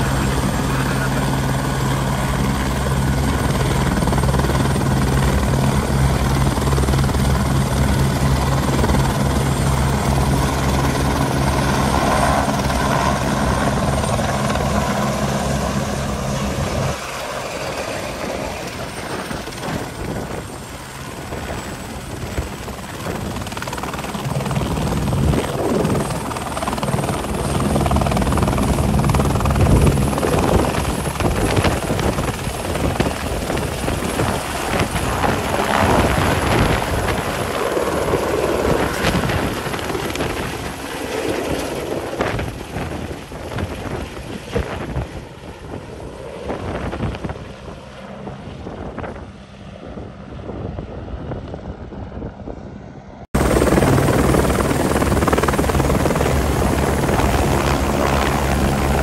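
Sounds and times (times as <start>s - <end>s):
helicopter engines and rotors: 0.0s - 59.0s.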